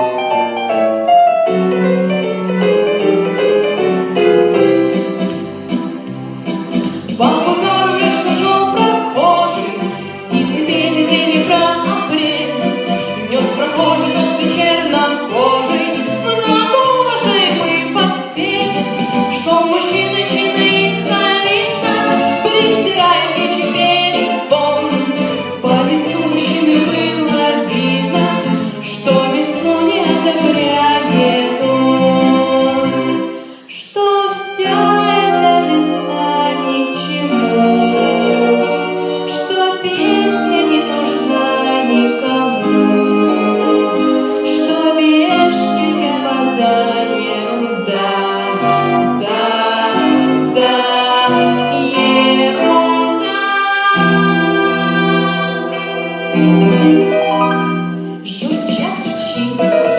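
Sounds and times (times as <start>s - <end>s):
song with singing voices: 4.5s - 59.9s.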